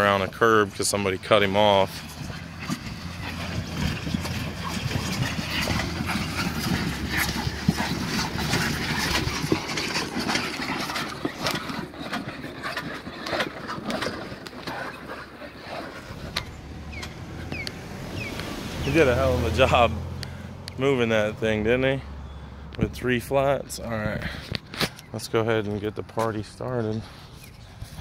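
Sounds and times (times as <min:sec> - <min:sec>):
vehicle engine running low: 0:00.0 - 0:28.0.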